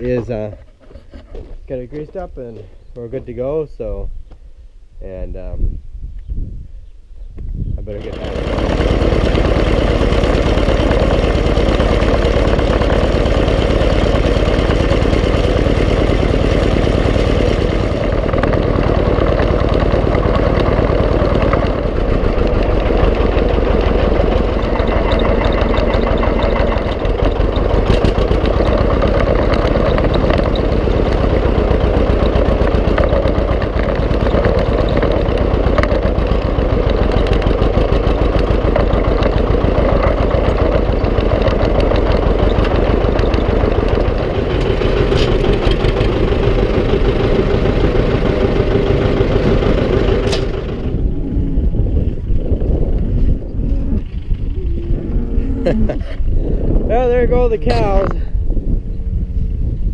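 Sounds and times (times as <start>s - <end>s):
tractor engine running: 7.9s - 59.9s.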